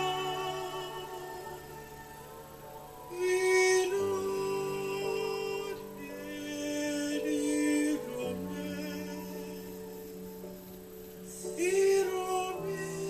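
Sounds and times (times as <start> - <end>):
person singing: 0.0 - 13.0
slow worship music: 0.0 - 13.0.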